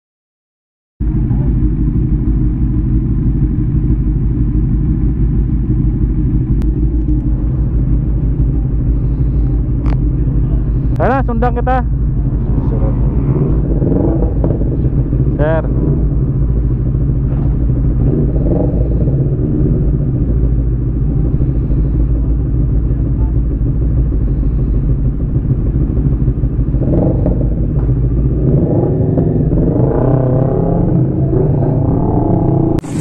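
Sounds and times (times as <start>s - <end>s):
motorcycle engine revving: 1.0s - 33.0s.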